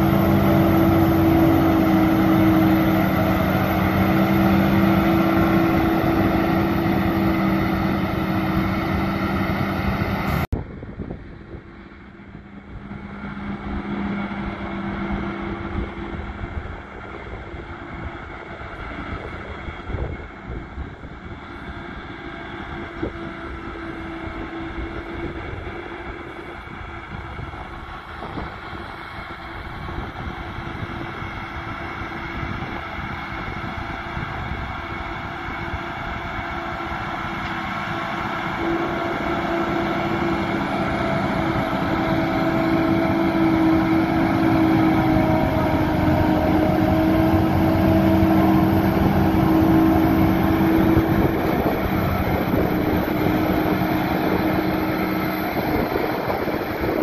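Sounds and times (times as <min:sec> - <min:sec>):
tractor running: 0:00.0 - 0:57.0.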